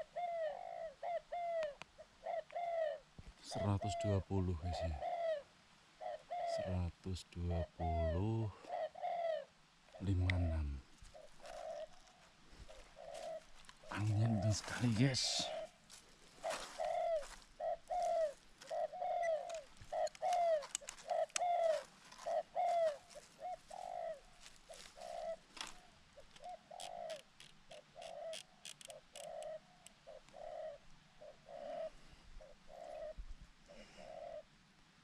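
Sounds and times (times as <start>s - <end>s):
doves cooing: 0.0s - 34.5s.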